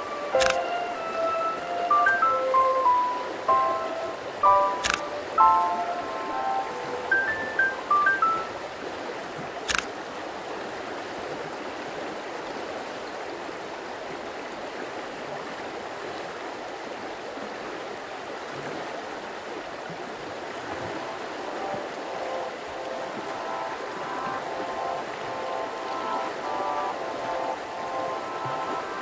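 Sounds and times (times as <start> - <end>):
river rushing over stones: 0.0 - 29.0.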